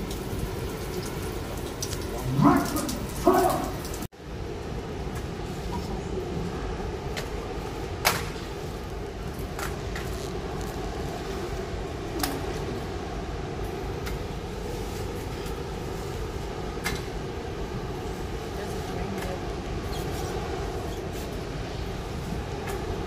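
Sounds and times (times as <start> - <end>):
rain on a ship's deck: 0.0 - 23.0.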